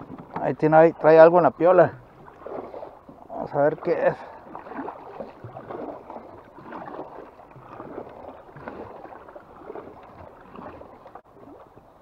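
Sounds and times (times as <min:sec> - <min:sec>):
water sloshing against boat hull: 0:00.0 - 0:12.0.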